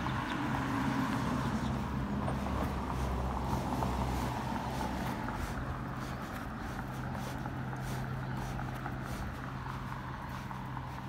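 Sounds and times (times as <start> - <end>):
cars passing: 0.0 - 11.0
rumble of tyres and engines: 0.0 - 11.0.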